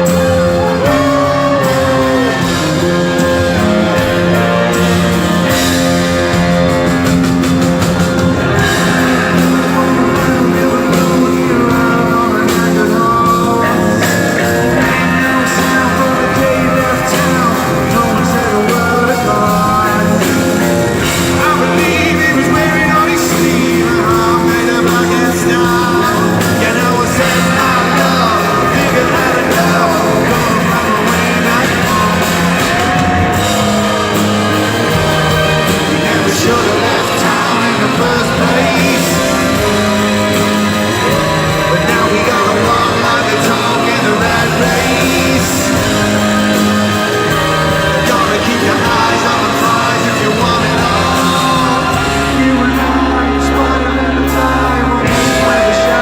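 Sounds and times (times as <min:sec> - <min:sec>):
live rock band with singing: 0:00.0 - 0:56.0.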